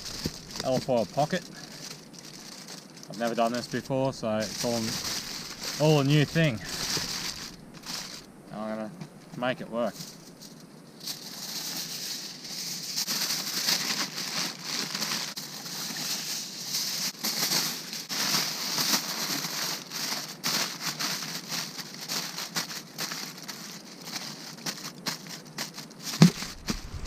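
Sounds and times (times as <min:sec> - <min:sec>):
aluminium foil crinkling: 0:00.0 - 0:08.3, 0:09.8 - 0:27.0.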